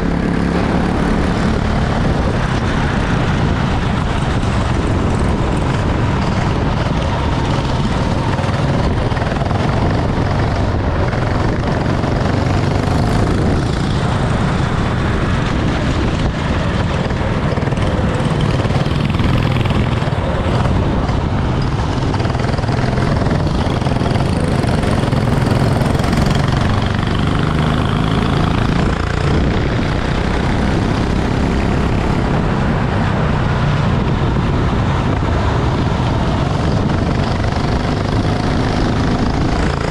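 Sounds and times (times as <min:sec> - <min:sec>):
kart engine running: 0:00.0 - 0:39.9
rushing noise: 0:00.0 - 0:39.9.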